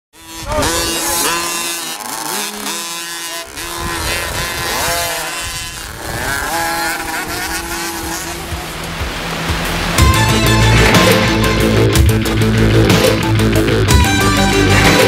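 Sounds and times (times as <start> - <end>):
motocross bikes revving: 0.2 - 15.0.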